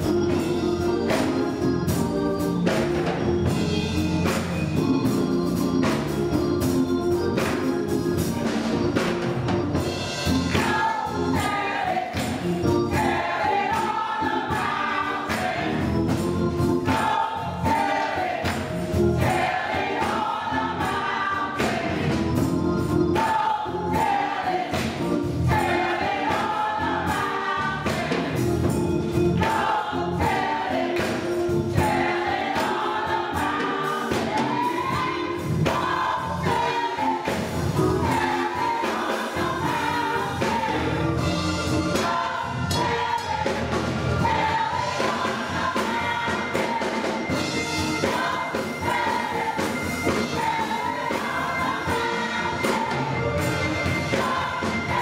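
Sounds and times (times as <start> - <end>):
gospel choir singing: 0.0 - 55.0
keyboard accompaniment: 0.0 - 55.0
percussion hits: 0.0 - 55.0.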